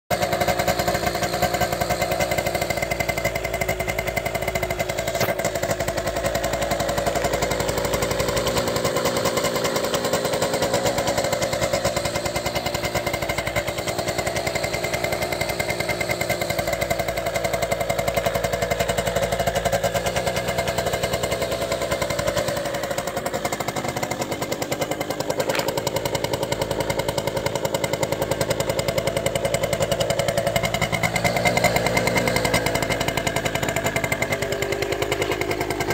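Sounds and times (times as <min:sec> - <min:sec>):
scooter engine puttering: 0:00.1 - 0:35.9.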